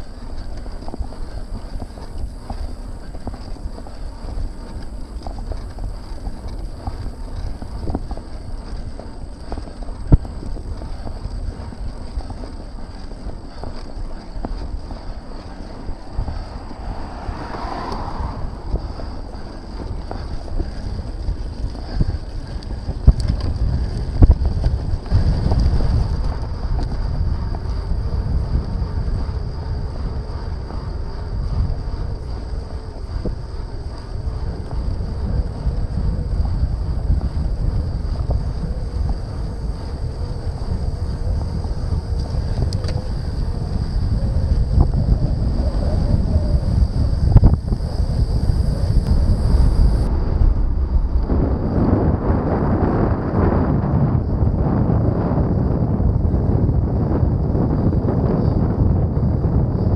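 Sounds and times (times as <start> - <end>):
road noise: 0.0 - 54.4
wind buffeting microphone: 0.0 - 59.9.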